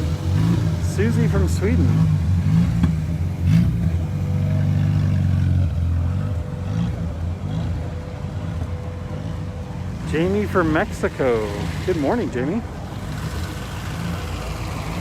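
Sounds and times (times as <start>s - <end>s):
car engine rumbling passing by: 0.0s - 15.0s.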